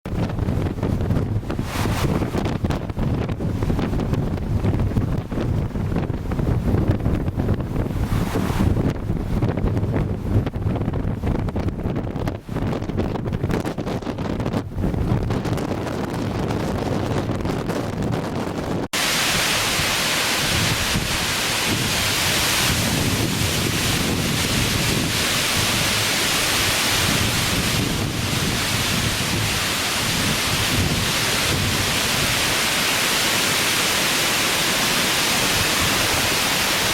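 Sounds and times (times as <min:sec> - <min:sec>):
strong wind through trees: 0:00.0 - 0:36.9
wind buffeting microphone: 0:00.0 - 0:36.9.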